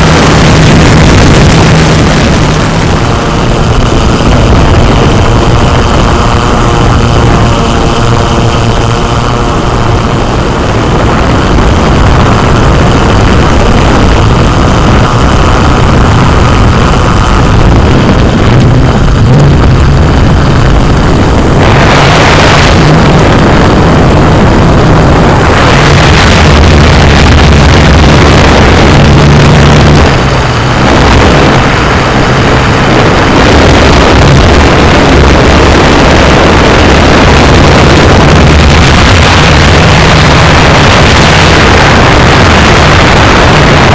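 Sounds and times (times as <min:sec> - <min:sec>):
drone propellers whirring: 0:00.0 - 0:43.9.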